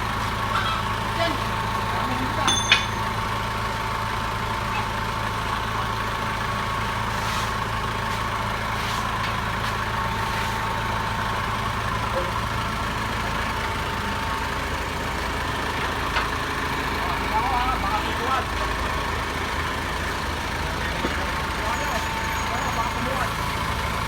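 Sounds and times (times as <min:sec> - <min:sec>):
forklift engine idling: 0:00.0 - 0:24.0.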